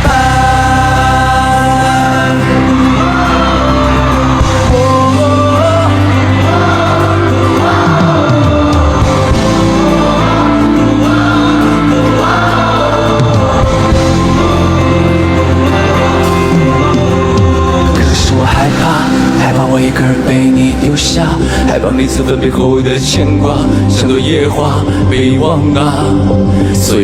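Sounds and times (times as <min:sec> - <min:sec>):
pop ballad backing chords and bass: 0:00.0 - 0:27.0
wordless sung vocal line: 0:00.0 - 0:27.0.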